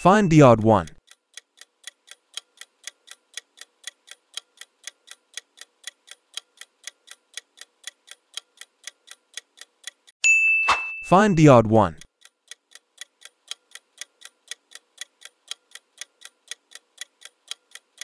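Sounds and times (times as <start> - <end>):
clock ticking: 0.0 - 10.2, 11.0 - 18.0.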